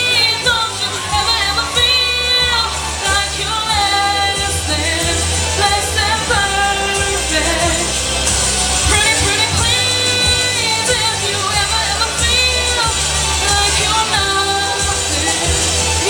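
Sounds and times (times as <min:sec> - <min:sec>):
backing track with bass line: 0:00.0 - 0:16.0
woman singing a pop ballad: 0:00.0 - 0:16.0.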